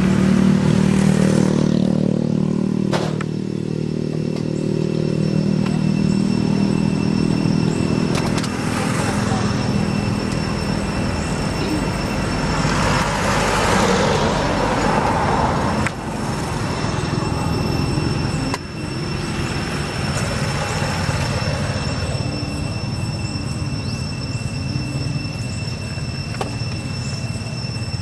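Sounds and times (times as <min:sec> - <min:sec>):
vehicle passing: 0:00.0 - 0:25.6
high-pitched whine: 0:00.0 - 0:28.0
traffic rumble and hiss: 0:00.0 - 0:28.0.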